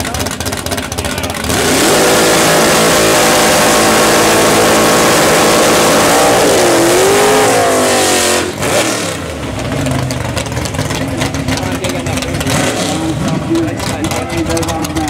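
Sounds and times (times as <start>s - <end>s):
car engine at high revs: 0.0s - 15.0s
tires spinning on pavement: 0.0s - 15.0s.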